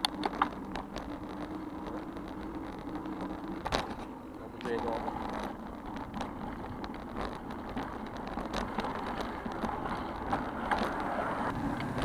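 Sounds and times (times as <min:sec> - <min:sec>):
light clicks and rattles: 0:00.0 - 0:11.2
bicycle road noise: 0:00.0 - 0:12.0.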